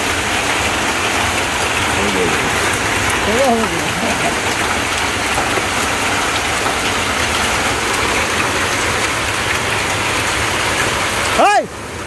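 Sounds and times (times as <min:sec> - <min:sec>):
hailstones ticking on surfaces: 0:00.0 - 0:12.0
heavy rain hiss: 0:00.0 - 0:12.0.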